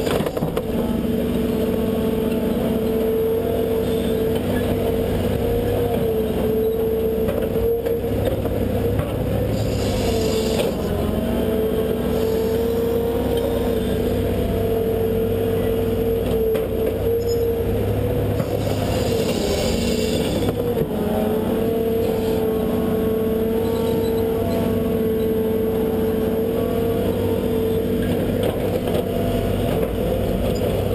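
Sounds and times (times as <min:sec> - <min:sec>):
excavator diesel engine under load: 0:00.0 - 0:30.9
hydraulic whine: 0:00.0 - 0:30.9.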